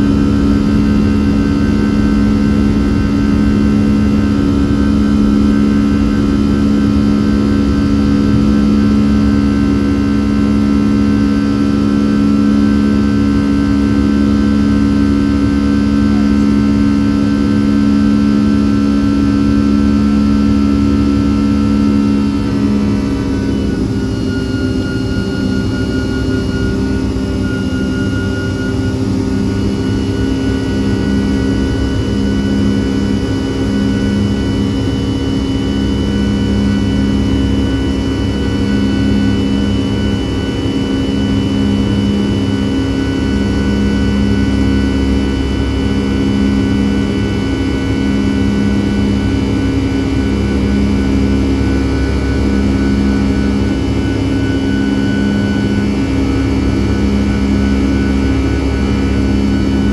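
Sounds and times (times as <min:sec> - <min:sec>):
high whining tones: 0:00.0 - 0:59.9
jet engine drone in cabin: 0:00.0 - 0:59.9
pulsing low hum: 0:00.0 - 0:59.9.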